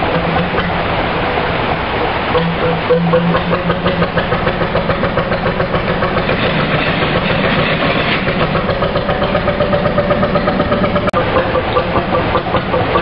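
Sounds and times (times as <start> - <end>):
diesel boat engine running: 0.0 - 13.0.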